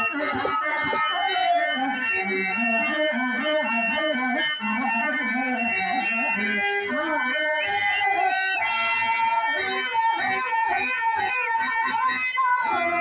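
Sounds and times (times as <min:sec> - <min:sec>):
harmonium: 0:00.0 - 0:13.0
woman singing: 0:00.0 - 0:13.0.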